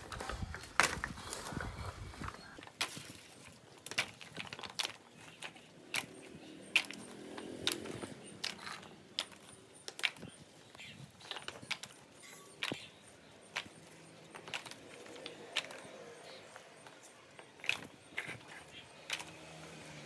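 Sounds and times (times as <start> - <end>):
coconut shells clattering into basket: 0.0 - 20.0.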